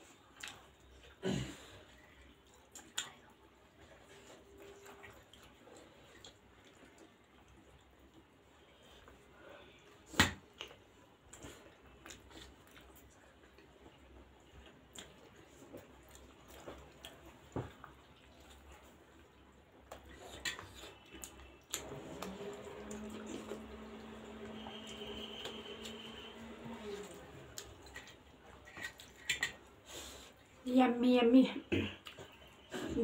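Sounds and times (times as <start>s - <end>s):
wet chewing: 0.0s - 1.2s, 1.9s - 9.2s, 9.9s - 30.6s.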